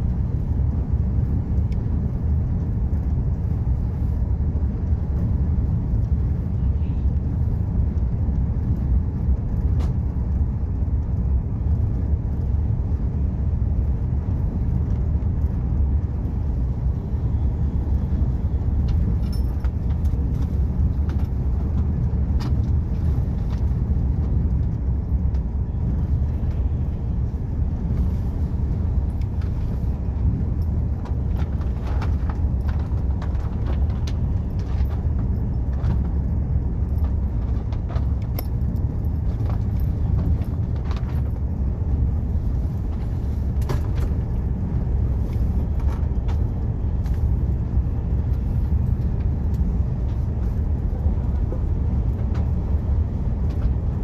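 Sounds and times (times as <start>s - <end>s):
vehicle rumble: 0.0s - 54.0s.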